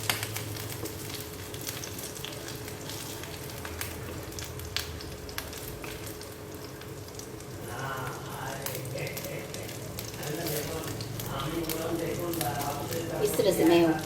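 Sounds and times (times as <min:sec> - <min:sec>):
chicken frying in hot oil: 0:00.0 - 0:14.0.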